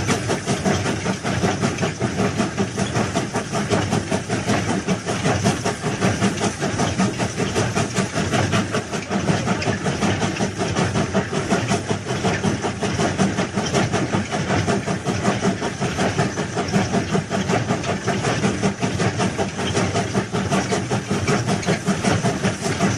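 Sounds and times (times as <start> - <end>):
train rumbling on rails: 0.0 - 22.9.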